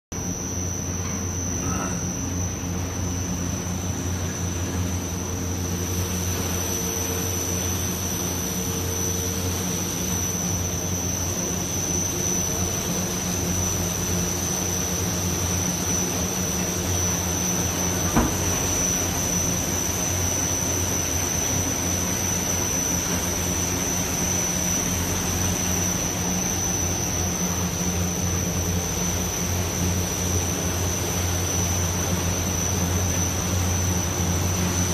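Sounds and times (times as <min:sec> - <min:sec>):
high whine: 0:00.1 - 0:34.9.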